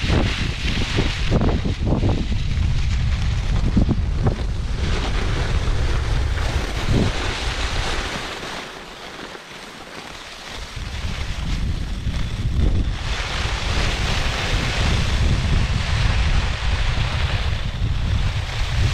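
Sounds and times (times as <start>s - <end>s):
wind buffeting microphone: 0.0s - 8.4s, 10.6s - 18.9s.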